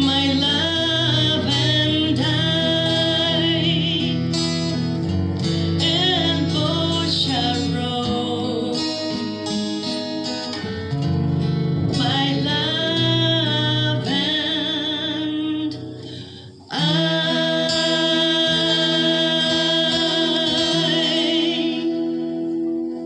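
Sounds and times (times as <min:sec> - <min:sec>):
person singing long notes: 0:00.0 - 0:04.4, 0:05.7 - 0:10.0, 0:11.8 - 0:22.9
acoustic guitar: 0:00.0 - 0:23.0.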